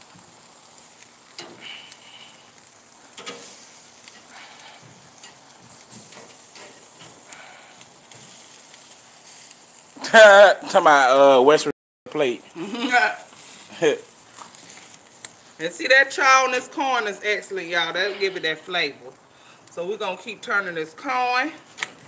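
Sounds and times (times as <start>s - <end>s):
fat popping and crackling: 0.0s - 10.6s, 12.1s - 20.4s, 21.0s - 22.0s
meat sizzling on grill: 0.0s - 22.0s.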